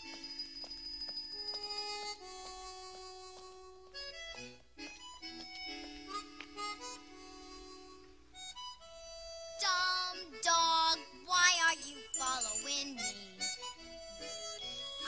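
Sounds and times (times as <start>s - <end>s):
harmonica-led orchestral music: 0.0s - 15.0s.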